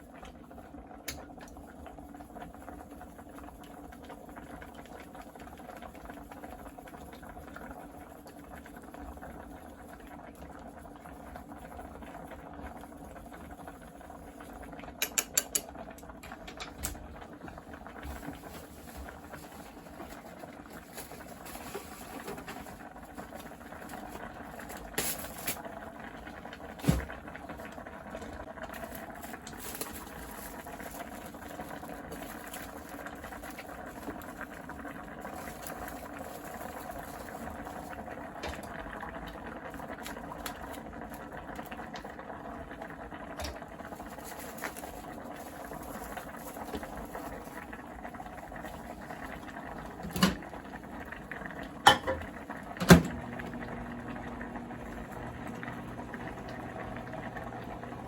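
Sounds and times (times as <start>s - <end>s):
liquid bubbling in a pot: 0.0s - 58.0s.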